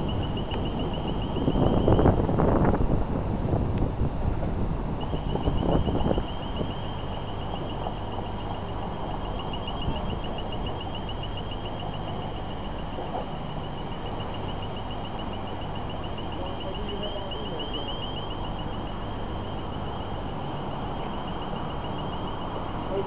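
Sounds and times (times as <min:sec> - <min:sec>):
distant road traffic: 0:00.0 - 0:23.0.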